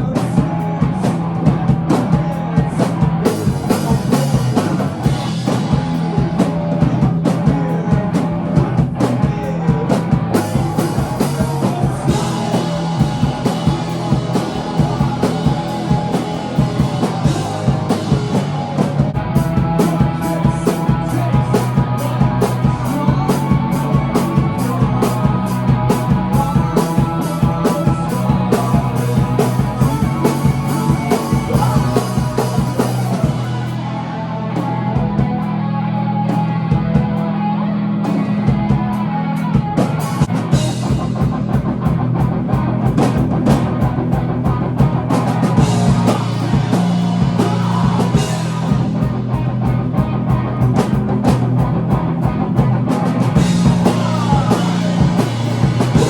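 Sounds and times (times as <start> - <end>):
rock music with drums and guitar: 0.0 - 56.0.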